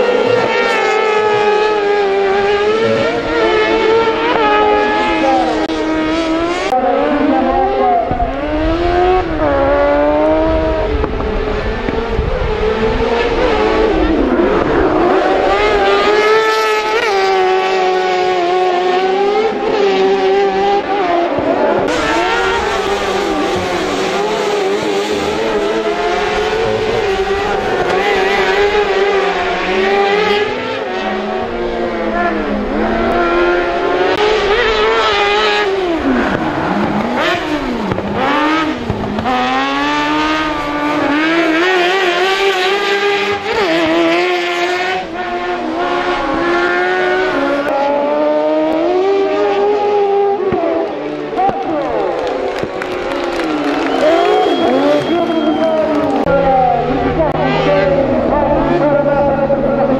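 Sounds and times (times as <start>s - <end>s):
racing buggy engines revving: 0.0s - 59.9s.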